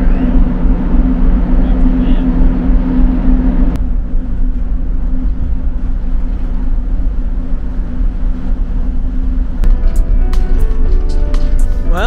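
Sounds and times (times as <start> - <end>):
wind rumbling on microphone: 0.0 - 10.9
ferry engines droning: 0.0 - 12.0.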